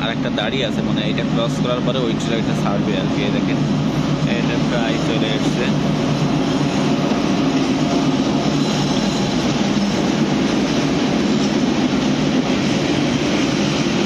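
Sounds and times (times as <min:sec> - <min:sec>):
diesel locomotive engine running: 0:00.0 - 0:14.0
train coaches rolling on rails: 0:00.0 - 0:14.0.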